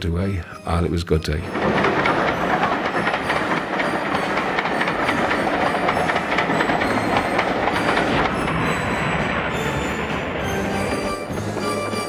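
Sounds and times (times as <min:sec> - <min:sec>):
train wheels clattering on rails: 0:01.4 - 0:12.0.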